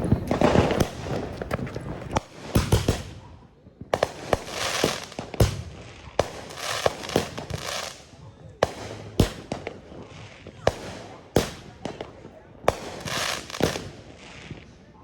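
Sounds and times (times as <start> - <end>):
fireworks bangs: 0.0 - 15.0
fireworks hissing and crackling: 0.0 - 15.0.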